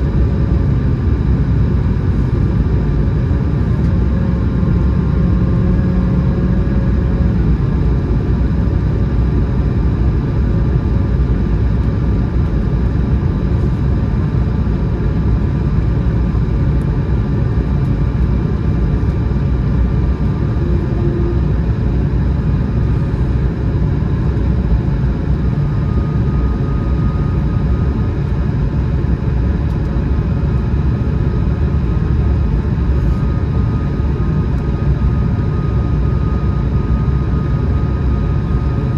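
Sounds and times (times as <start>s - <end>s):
airplane cabin rumble: 0.0s - 38.9s
faint steady whining tones: 0.0s - 38.9s.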